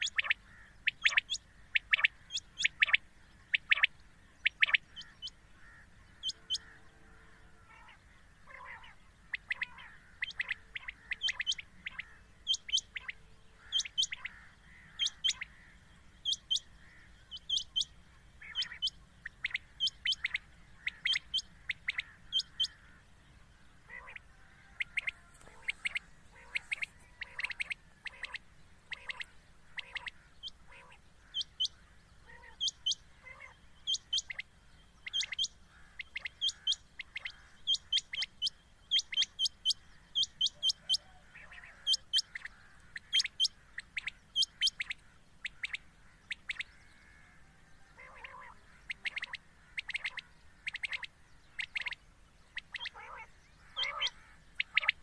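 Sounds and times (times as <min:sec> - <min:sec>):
quail calling: 0:00.0 - 0:55.0.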